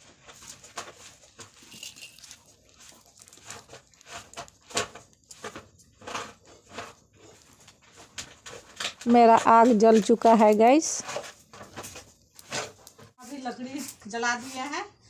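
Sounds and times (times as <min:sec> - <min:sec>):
fire crackling and popping: 0:00.0 - 0:13.2.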